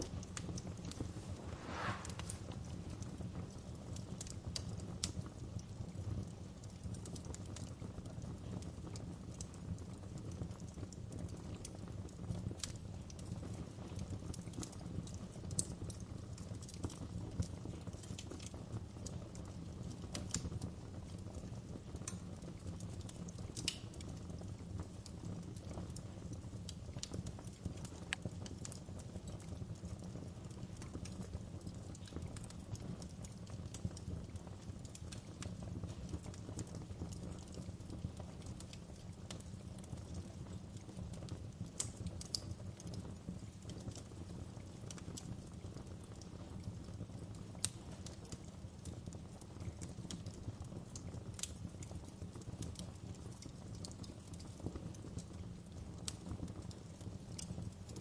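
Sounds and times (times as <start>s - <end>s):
fire crackles and pops: 0.0s - 58.0s
wood fire burning: 0.0s - 58.0s.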